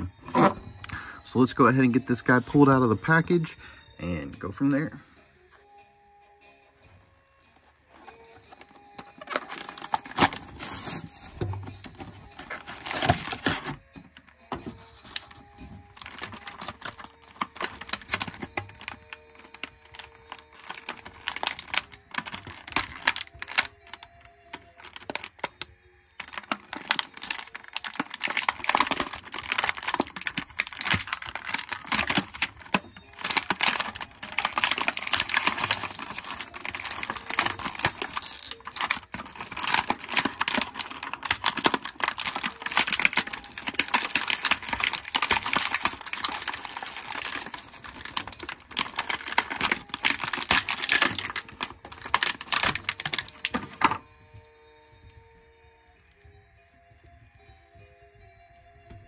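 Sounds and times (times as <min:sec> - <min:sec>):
plastic packaging crinkling: 0:00.0 - 0:00.8, 0:07.6 - 0:54.5.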